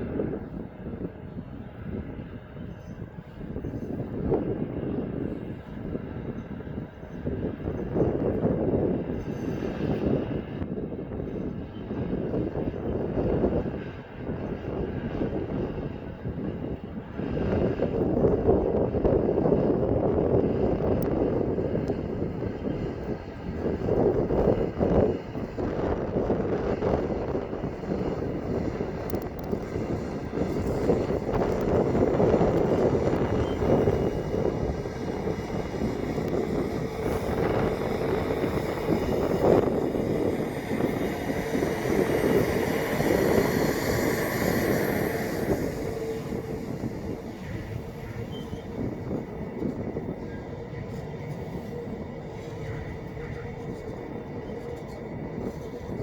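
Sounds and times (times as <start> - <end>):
freight train rolling past: 0.0 - 56.0
train wheel squeal: 0.1 - 56.0.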